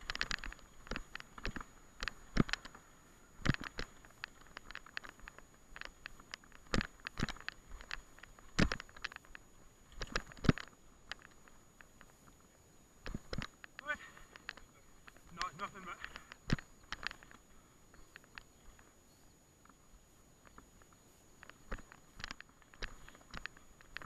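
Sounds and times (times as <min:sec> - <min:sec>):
mountain bike rattling over bumps: 0:00.0 - 0:18.9, 0:20.4 - 0:24.0.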